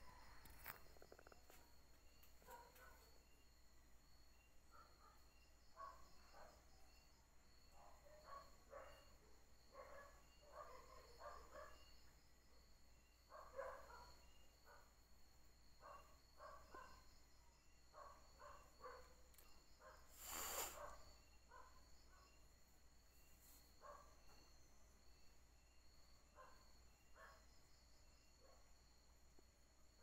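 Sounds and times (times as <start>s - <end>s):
crickets chirring: 0.0s - 30.0s.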